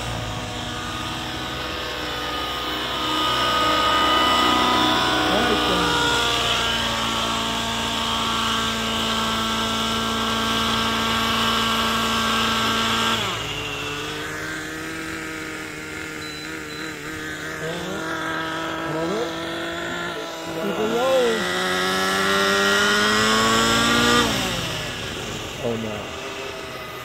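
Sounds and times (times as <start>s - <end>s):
model helicopter engine whine: 0.0s - 27.0s.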